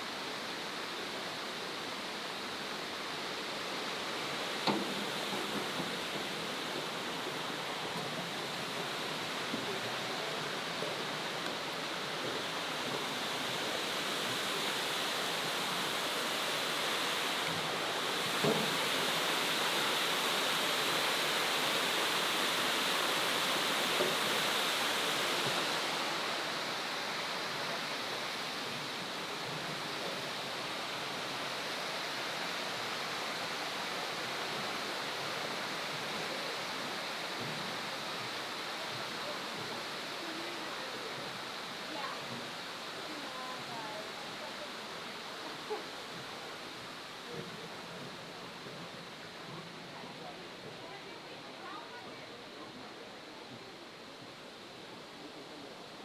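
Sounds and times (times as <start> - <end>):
waterfall rushing: 0.0 - 52.1.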